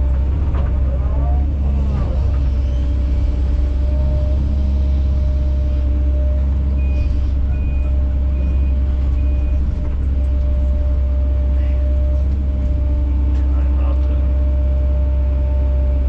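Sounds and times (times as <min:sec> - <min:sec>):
excavator diesel engine droning: 0:00.0 - 0:16.0.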